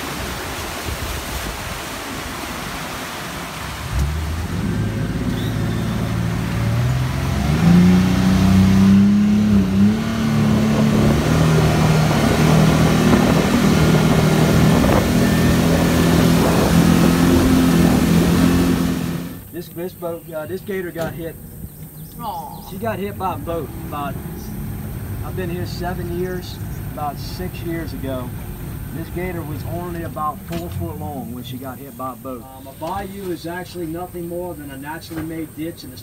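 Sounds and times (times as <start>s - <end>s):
rush of wind and water: 0.0s - 35.6s
boat engine throttling up: 3.8s - 19.6s, 20.6s - 34.3s.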